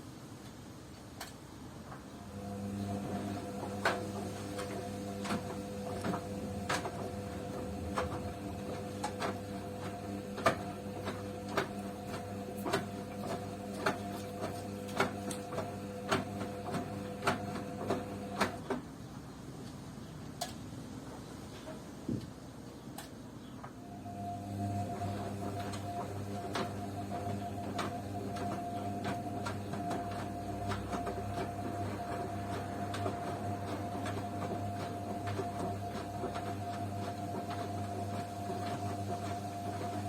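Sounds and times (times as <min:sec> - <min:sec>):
washing machine motor humming: 0:02.1 - 0:18.9, 0:23.8 - 0:40.0.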